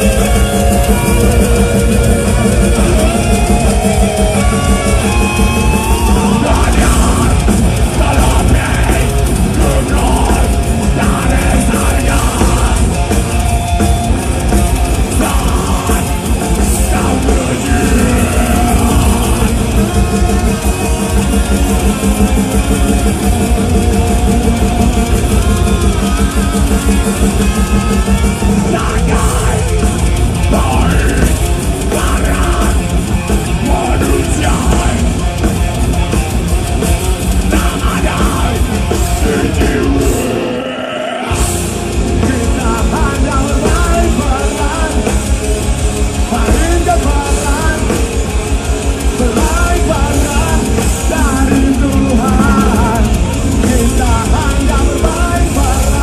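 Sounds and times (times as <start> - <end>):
person singing: 0.0 - 13.5, 14.8 - 35.5, 37.4 - 45.2, 46.2 - 48.3, 49.0 - 56.0
bass: 0.0 - 56.0
distorted guitars: 0.0 - 56.0
drum kit: 0.0 - 56.0.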